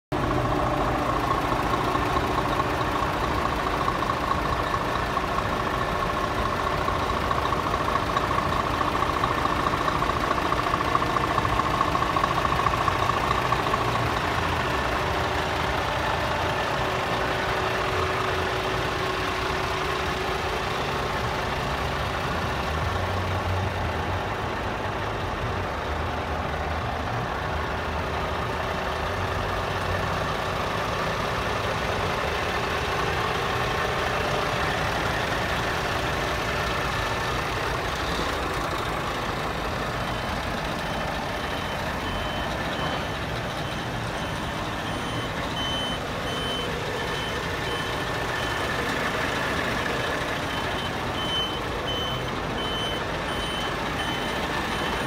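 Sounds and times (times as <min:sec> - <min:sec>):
truck diesel engine idling: 0:00.1 - 0:55.0.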